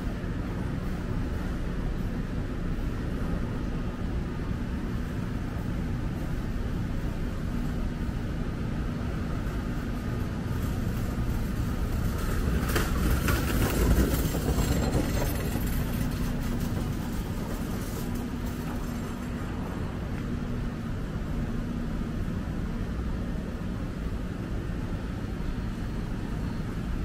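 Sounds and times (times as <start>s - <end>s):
traffic engine hum: 0.0s - 27.0s.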